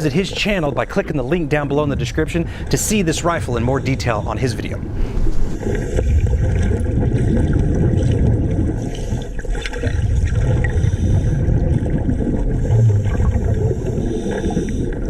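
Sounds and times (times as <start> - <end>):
muffled underwater river rumbling: 0.0 - 15.0.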